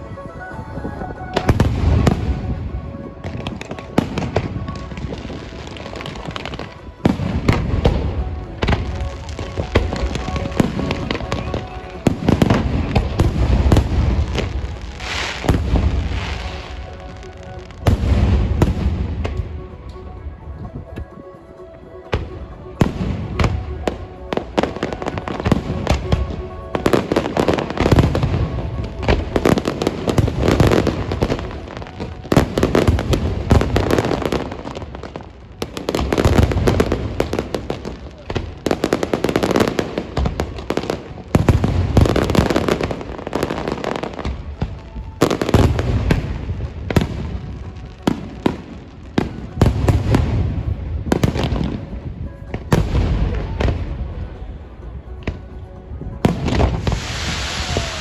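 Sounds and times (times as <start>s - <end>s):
fireworks booming and crackling: 0.0s - 21.3s, 21.9s - 58.0s.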